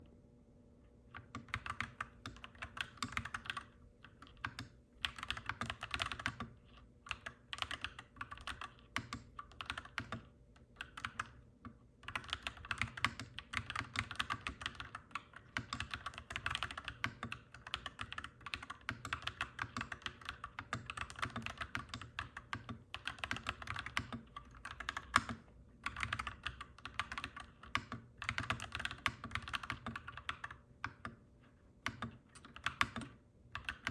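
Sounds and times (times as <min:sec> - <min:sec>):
faint low hum: 0:00.0 - 0:33.9
mechanical keyboard typing: 0:01.2 - 0:11.4, 0:12.0 - 0:31.2, 0:31.8 - 0:33.9.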